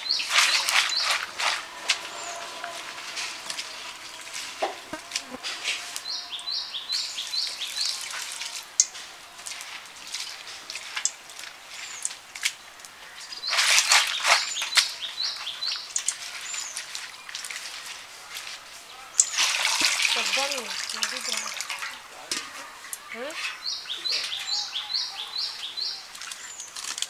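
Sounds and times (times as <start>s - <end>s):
hands squelching vegetables in water: 0.0s - 6.1s, 6.9s - 27.0s
birds chirping: 0.0s - 26.9s.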